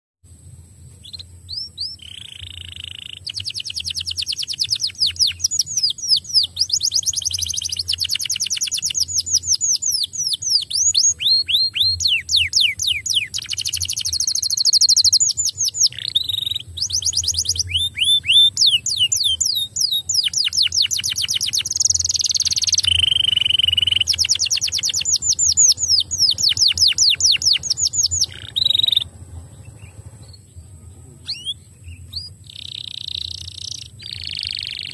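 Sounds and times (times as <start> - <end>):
canary singing trills: 0.8 - 34.9.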